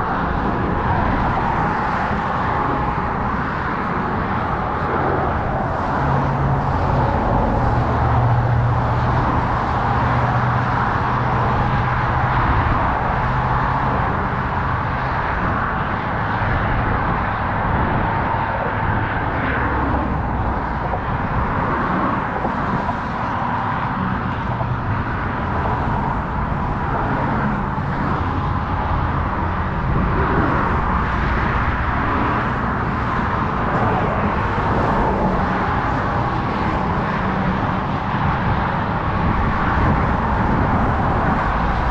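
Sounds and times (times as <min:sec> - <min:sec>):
cars passing: 0:00.0 - 0:41.9.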